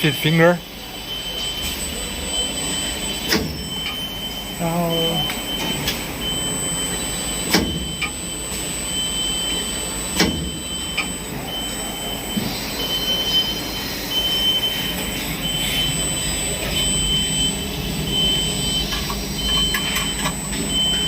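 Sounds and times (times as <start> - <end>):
grinding machine hum and whine: 0.0 - 21.0.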